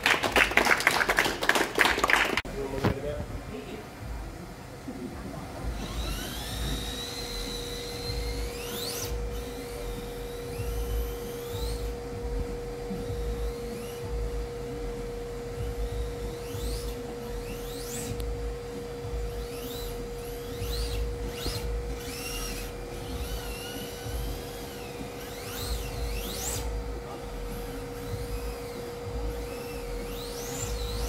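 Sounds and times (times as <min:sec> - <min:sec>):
steady hum: 0:00.0 - 0:31.0
electric motor whining: 0:05.5 - 0:31.0.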